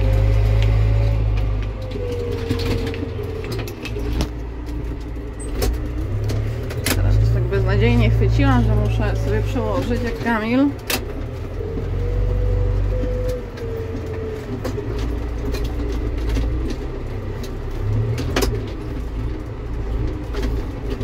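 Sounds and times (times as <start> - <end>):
sharp knocks and rattles: 0.0 - 12.4, 13.0 - 21.0
tractor engine rumbling: 0.0 - 21.0.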